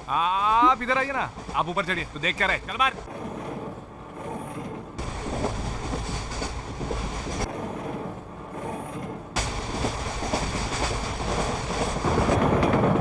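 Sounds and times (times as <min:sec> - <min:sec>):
moving train rumbling: 0:00.0 - 0:13.0.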